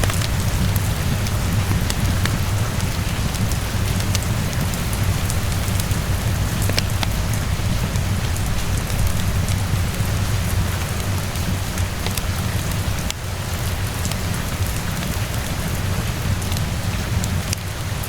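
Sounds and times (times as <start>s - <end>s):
low rumble: 0.0s - 16.2s
wood fire crackling: 0.0s - 17.7s
steady rain: 0.0s - 18.0s.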